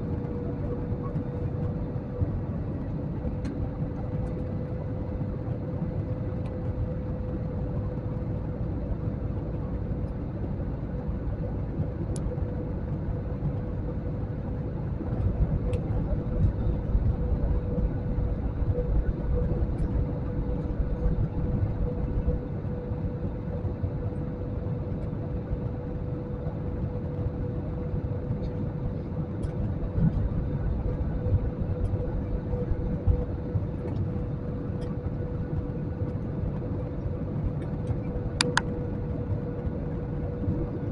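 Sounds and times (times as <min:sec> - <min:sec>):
constant hum: 0:00.0 - 0:40.9
jet engines and airflow rumble: 0:00.0 - 0:40.9.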